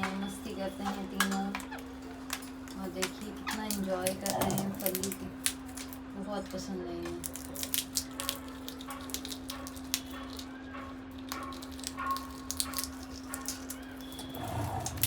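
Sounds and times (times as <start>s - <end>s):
parrots cracking peanut shells: 0.0s - 15.0s.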